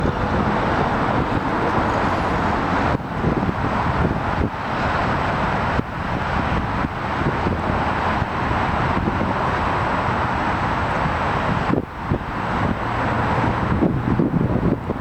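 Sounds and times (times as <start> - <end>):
jet engines roaring: 0.0 - 15.0
wind on microphone: 0.0 - 15.0.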